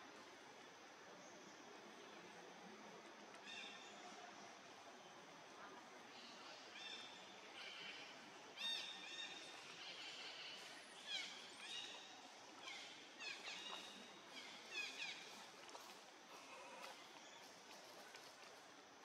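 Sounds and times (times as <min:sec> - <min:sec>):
soft steady hiss: 0:00.0 - 0:19.0.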